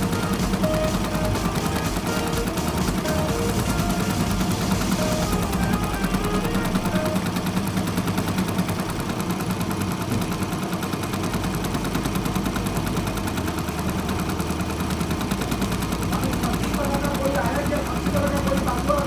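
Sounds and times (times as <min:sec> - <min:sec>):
embroidery machine needle clatter: 0:00.0 - 0:19.0
low motor hum: 0:00.0 - 0:19.0.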